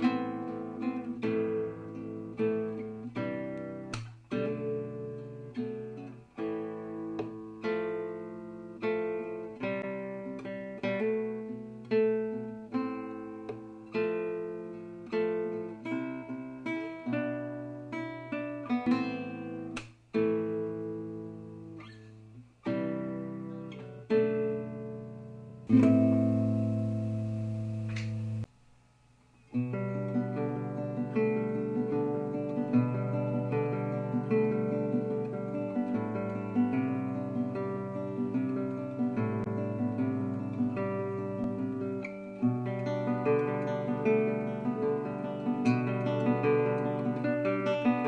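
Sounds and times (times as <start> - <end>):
acoustic guitar strumming chords: 0.0 - 28.6, 29.5 - 48.0.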